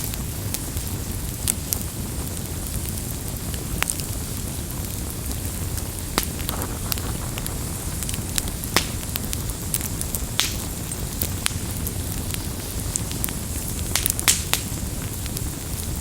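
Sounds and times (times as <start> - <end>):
rumble of flames: 0.0 - 16.0
wood crackling and popping: 0.0 - 16.0.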